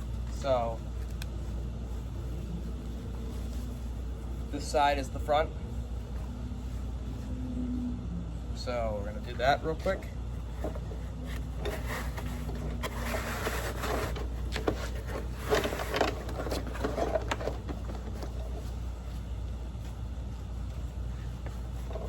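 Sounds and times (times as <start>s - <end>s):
fabric rustling and scraping: 0.0s - 22.0s
steady low hum: 0.0s - 22.0s.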